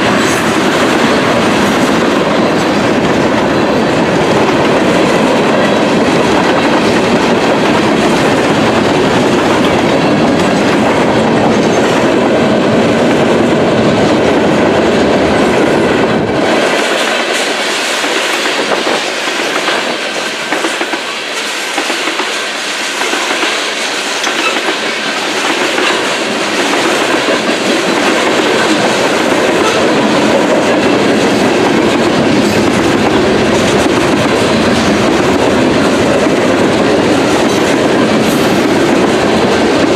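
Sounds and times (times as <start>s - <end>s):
train deep rumble: 0.0s - 39.9s
train wheels clacking on rails: 0.0s - 39.9s.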